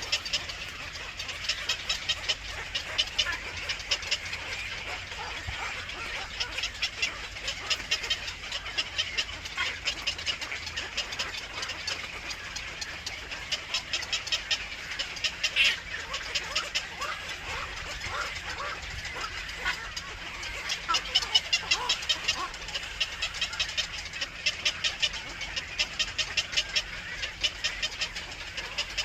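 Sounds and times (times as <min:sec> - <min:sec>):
loud bird call: 0:00.0 - 0:29.0
nestlings begging chirps: 0:00.0 - 0:29.0.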